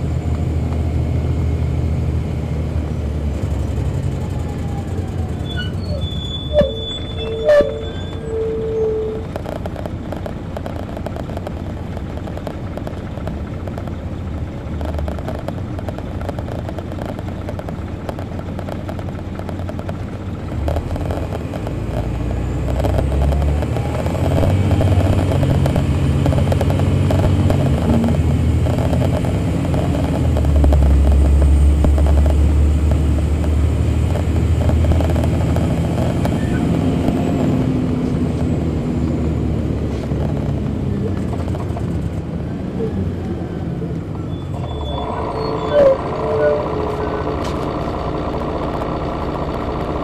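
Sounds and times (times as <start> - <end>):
bus diesel engine running: 0.0 - 50.0.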